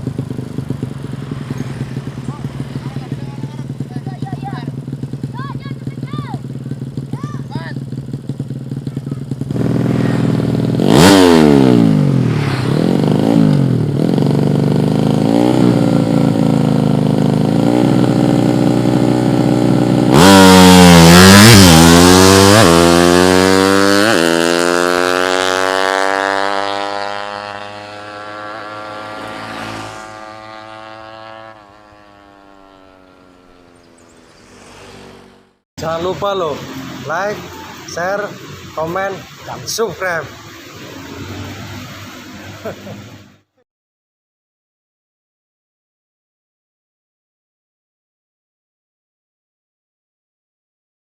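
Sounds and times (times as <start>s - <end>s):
racing motorcycle engine revving: 0.0s - 43.4s.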